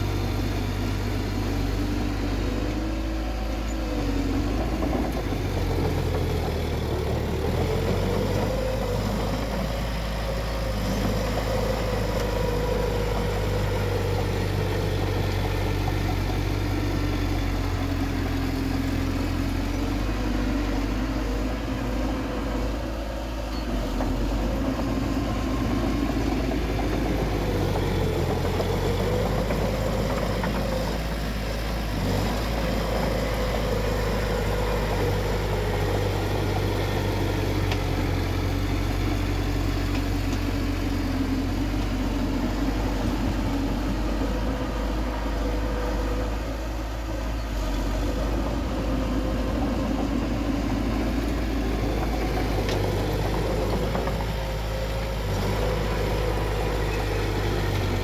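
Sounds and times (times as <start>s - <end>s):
heavy machine diesel engine running: 0.0s - 58.0s.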